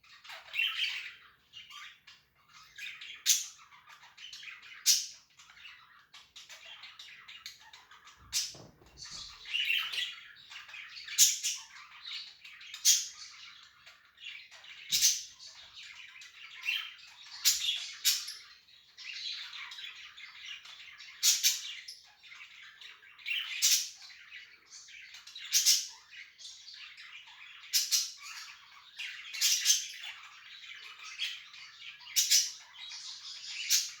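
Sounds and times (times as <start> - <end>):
budgies chirping and chattering: 0.0 - 34.0.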